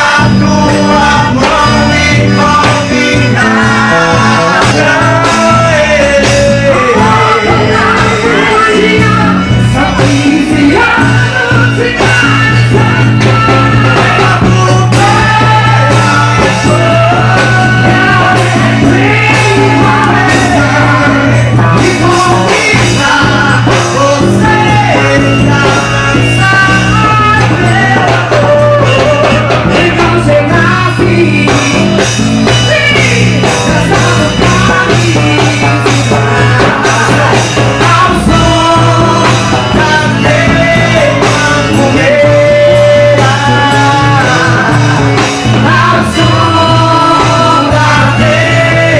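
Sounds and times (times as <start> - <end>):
loud music with steady bass: 0.0 - 48.9.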